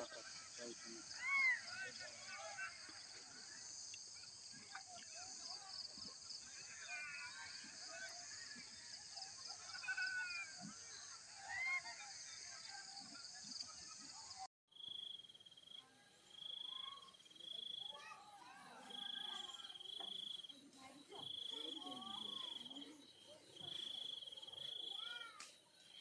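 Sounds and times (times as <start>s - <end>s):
faint voices: 0.0s - 14.5s, 15.5s - 26.0s
high insect trill: 0.0s - 26.0s
insects chirring: 0.0s - 26.0s.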